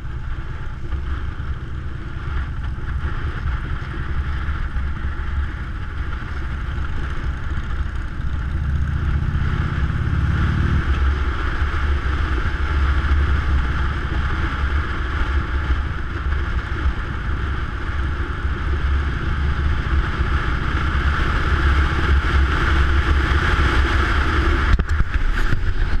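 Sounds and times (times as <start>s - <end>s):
motorcycle engine: 0.0s - 26.0s
wind rushing over microphone: 0.0s - 26.0s.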